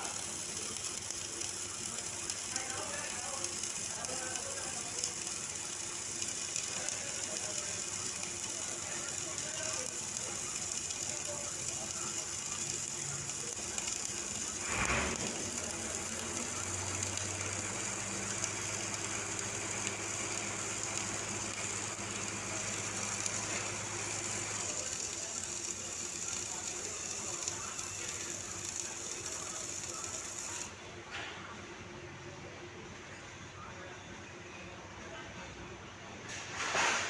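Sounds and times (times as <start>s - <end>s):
welding arc crackling: 0.0s - 30.8s.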